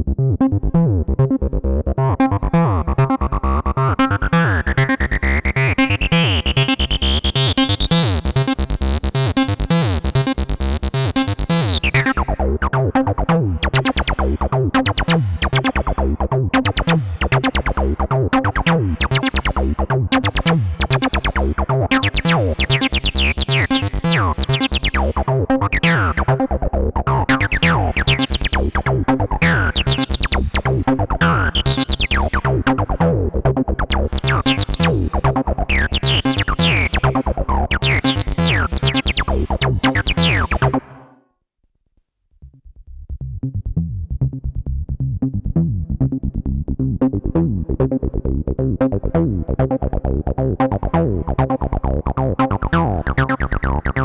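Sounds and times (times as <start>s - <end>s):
acid bassline synthesizer: 0.0s - 41.1s, 42.4s - 54.0s.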